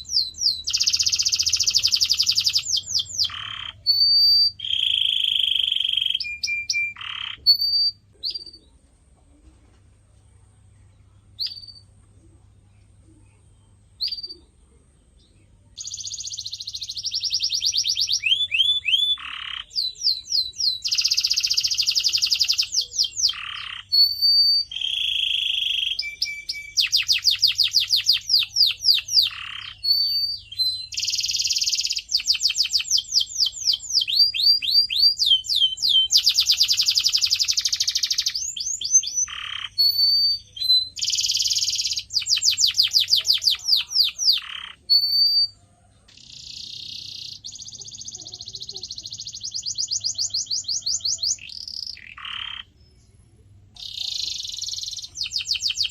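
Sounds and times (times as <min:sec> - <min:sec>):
canary singing trills: 0:00.0 - 0:08.9, 0:10.6 - 0:12.4, 0:13.0 - 0:55.9.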